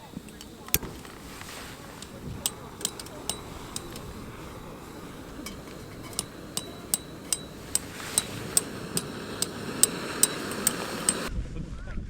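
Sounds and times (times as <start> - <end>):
sharp metallic taps with ringing: 0.0 - 11.3.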